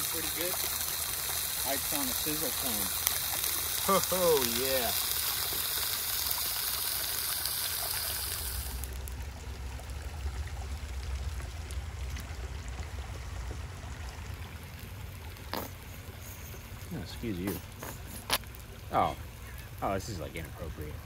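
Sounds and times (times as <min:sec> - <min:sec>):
fish sizzling in hot oil: 0:00.0 - 0:20.2.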